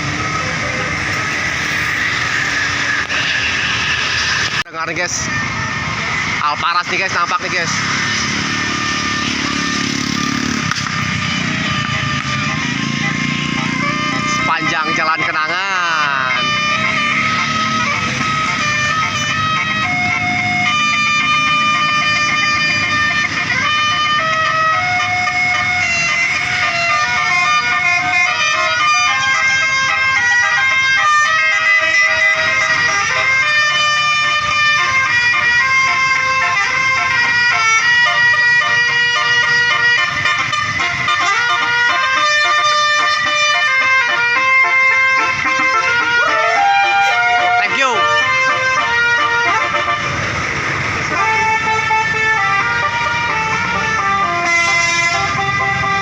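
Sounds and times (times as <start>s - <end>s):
engine and road noise: 0.0s - 56.0s
multi-tone air horns tune: 6.8s - 56.0s.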